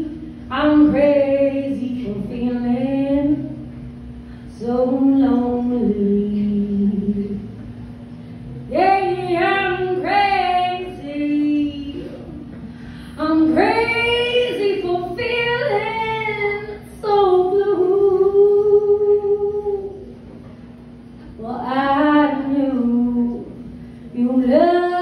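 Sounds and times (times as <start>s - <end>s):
woman singing a cappella: 0.0s - 3.6s, 4.5s - 7.6s, 8.7s - 12.5s, 13.1s - 20.1s, 21.4s - 25.0s
steady low hum: 0.0s - 25.0s.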